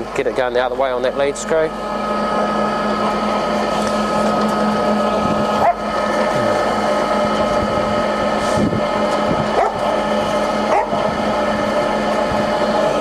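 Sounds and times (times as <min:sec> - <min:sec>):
lathe motor whine: 0:00.0 - 0:13.0.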